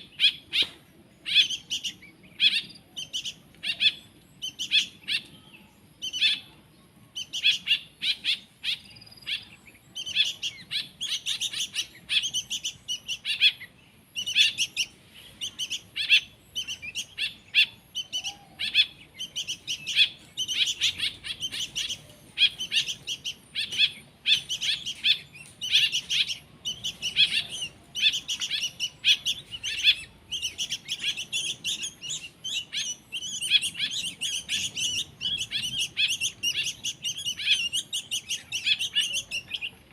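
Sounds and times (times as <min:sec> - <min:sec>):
bird chicks chirping: 0:00.0 - 0:39.9.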